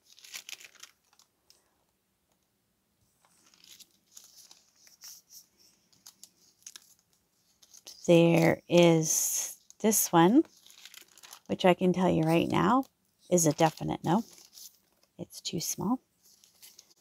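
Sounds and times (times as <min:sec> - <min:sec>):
paper rustling: 0:00.0 - 0:01.3, 0:03.2 - 0:15.1, 0:16.2 - 0:17.0.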